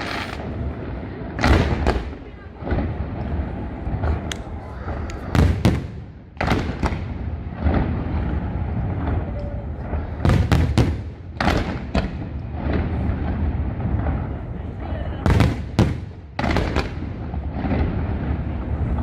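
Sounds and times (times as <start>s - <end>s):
continuous low rumble: 0.0s - 19.0s
fireworks bursting: 0.0s - 19.0s.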